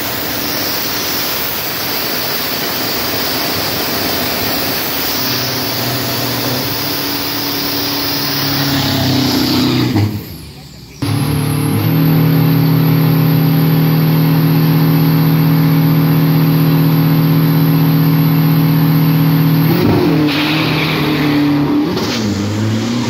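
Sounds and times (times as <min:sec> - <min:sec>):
truck engine revving high: 0:00.0 - 0:23.0.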